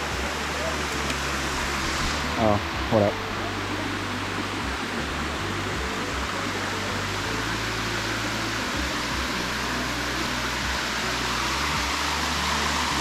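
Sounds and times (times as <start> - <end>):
water pouring down waterfall: 0.0 - 13.0.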